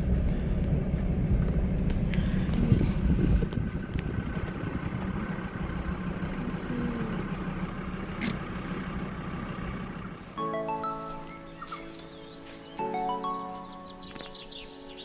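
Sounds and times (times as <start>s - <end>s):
engine humming: 0.0s - 14.8s.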